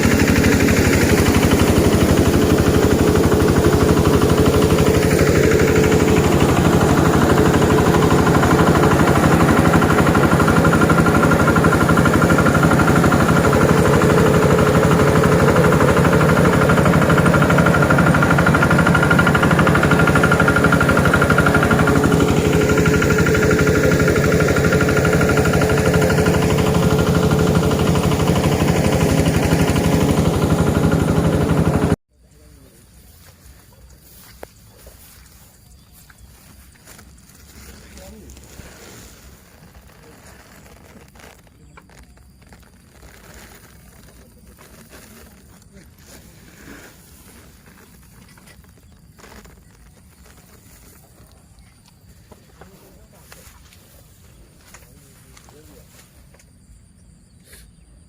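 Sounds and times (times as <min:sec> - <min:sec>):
harvester engine running: 0:00.0 - 0:57.3.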